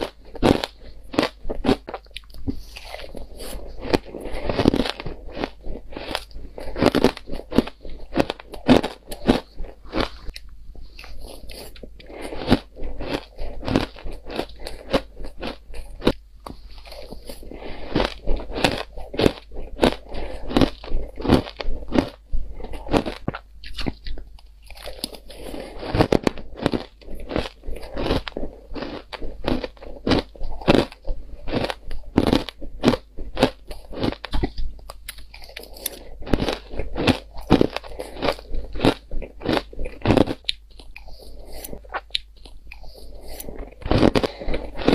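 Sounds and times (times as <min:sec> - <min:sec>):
ice crunching in mouth: 0:00.0 - 0:10.4, 0:11.0 - 0:44.9.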